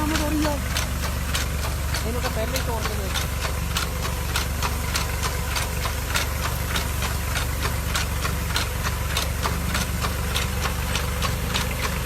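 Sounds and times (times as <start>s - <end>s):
tractor diesel engine clattering: 0.0s - 12.0s.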